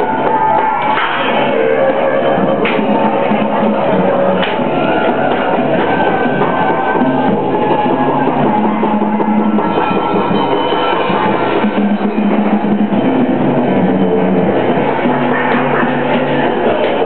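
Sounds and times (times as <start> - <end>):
drums and percussion playing: 0.0 - 17.0
sustained low notes: 0.0 - 17.0.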